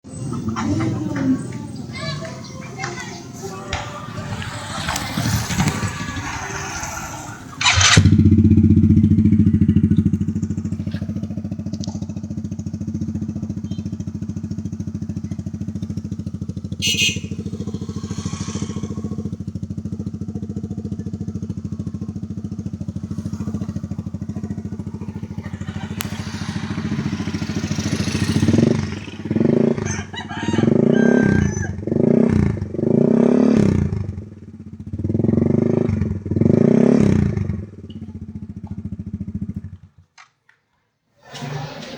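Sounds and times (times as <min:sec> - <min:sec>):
scooter engine idling and revving: 0:00.0 - 0:40.2, 0:41.3 - 0:41.9.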